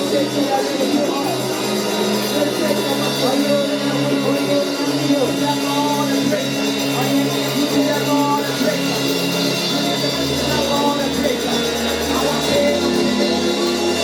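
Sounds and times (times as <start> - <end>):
worship band playing: 0.0 - 14.0.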